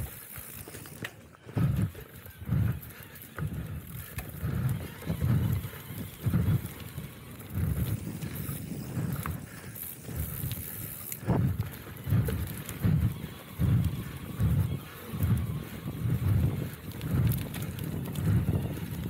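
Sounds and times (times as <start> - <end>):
bike rattling clicks: 0.0 - 19.0
bike tyres on dirt trail: 0.0 - 19.0
low thuds from bumps: 1.5 - 10.6, 11.2 - 19.0.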